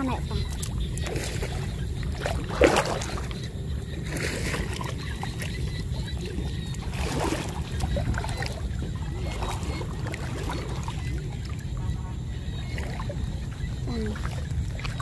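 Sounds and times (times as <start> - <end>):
steady low rumble: 0.0 - 15.0
water sloshing and splashing: 0.0 - 15.0.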